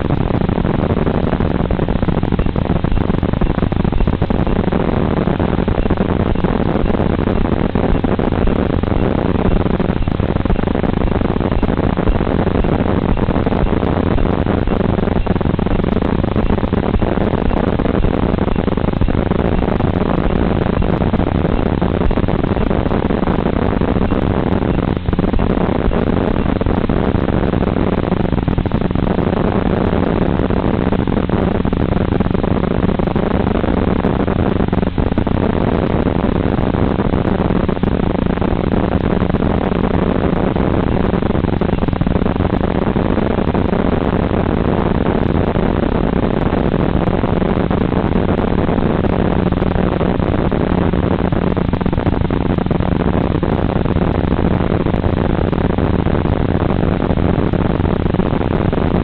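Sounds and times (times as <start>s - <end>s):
wind rush: 0.0s - 59.0s.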